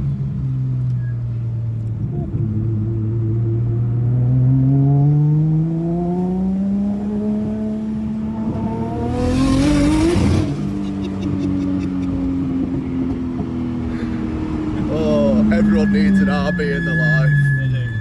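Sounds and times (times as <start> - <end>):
car engine revving: 1.8 - 18.0.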